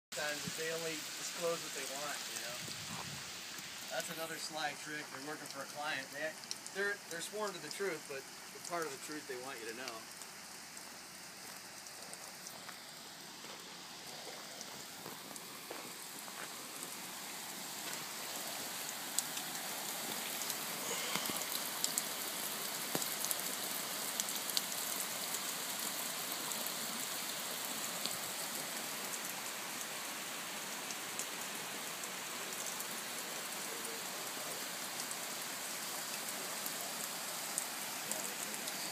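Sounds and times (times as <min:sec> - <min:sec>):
water spraying onto glass doors: 0:00.2 - 0:38.9.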